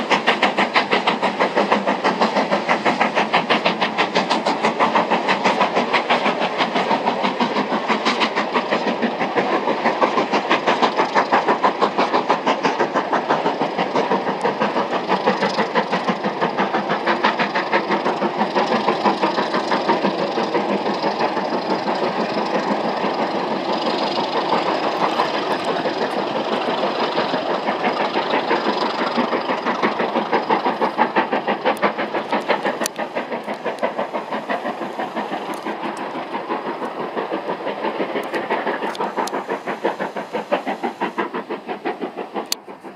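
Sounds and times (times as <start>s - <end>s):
steam locomotive exhaust chuffs: 0.0s - 42.9s
train rail noise: 0.0s - 42.9s.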